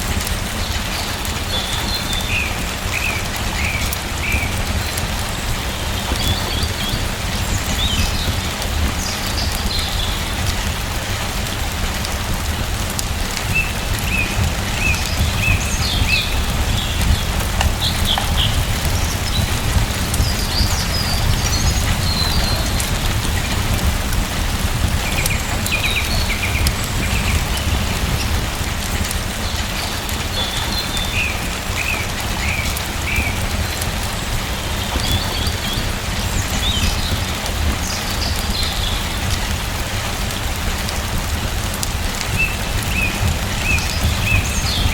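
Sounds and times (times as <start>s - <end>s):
steady rain falling: 0.0s - 44.9s
small birds chirping: 0.6s - 11.2s, 13.4s - 39.6s, 42.3s - 44.9s.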